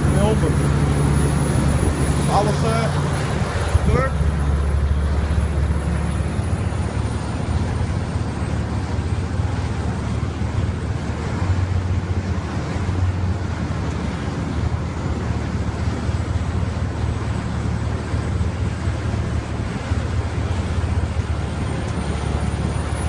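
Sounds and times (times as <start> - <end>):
diesel generator running: 0.0 - 23.0.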